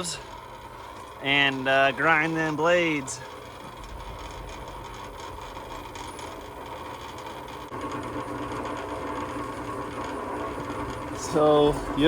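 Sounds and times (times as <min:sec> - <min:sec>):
electric grinder motor hum: 0:00.0 - 0:12.0.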